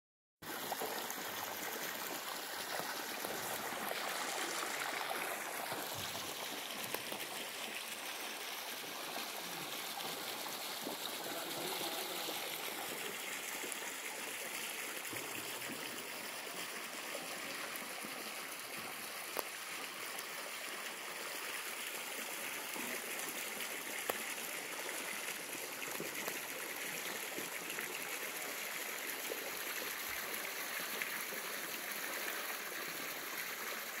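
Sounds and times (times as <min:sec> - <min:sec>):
water jet splashing into pond: 0:00.4 - 0:34.0.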